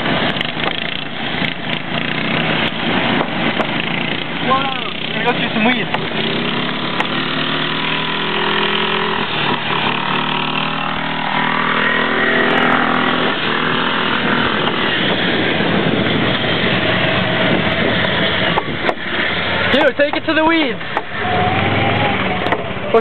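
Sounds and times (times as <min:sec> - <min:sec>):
rushing noise: 0:00.0 - 0:22.8
small engines running: 0:00.0 - 0:23.0.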